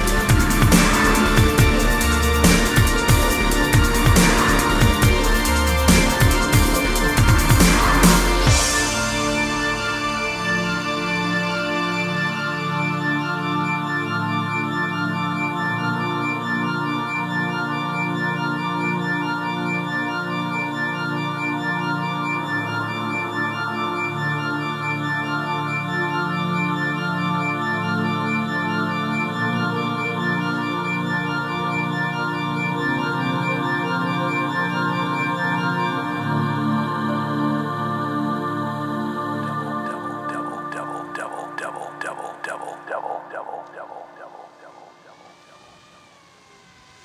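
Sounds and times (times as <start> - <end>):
slow sustained keyboard chords: 0.0 - 47.0.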